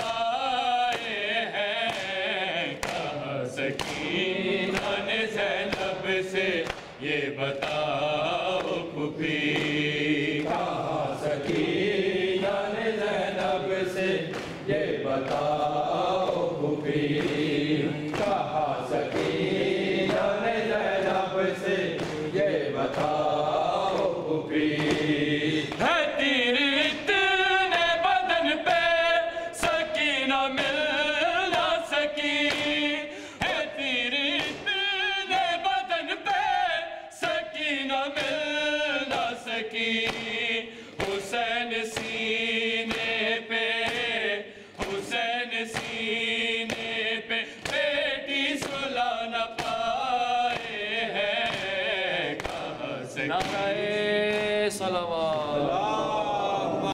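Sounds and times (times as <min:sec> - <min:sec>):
men chanting a lament: 0:00.0 - 0:56.9.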